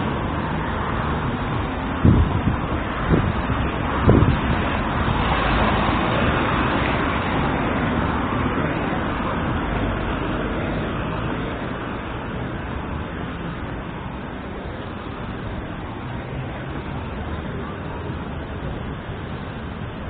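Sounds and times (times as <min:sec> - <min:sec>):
road traffic rush: 0:00.0 - 0:20.0.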